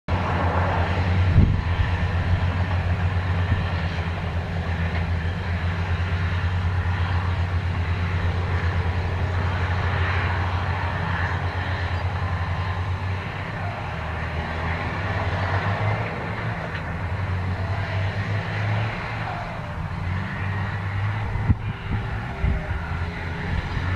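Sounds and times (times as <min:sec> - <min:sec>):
diesel engines running under load: 0:00.1 - 0:23.9.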